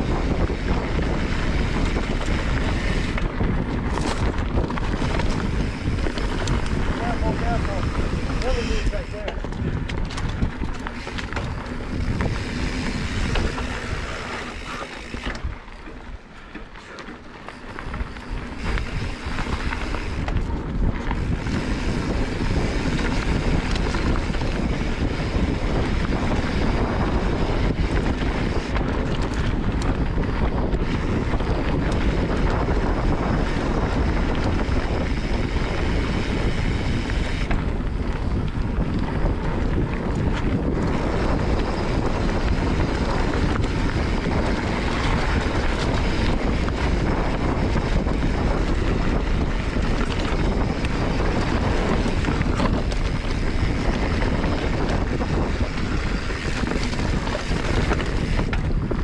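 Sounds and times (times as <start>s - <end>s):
bike riding on dirt trail: 0.0s - 59.0s
wind rushing over microphone: 0.0s - 59.0s.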